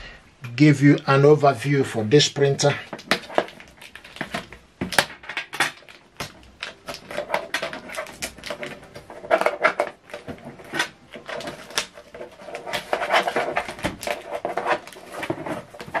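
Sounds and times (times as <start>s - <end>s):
crinkly plastic rustles: 2.4s - 16.0s.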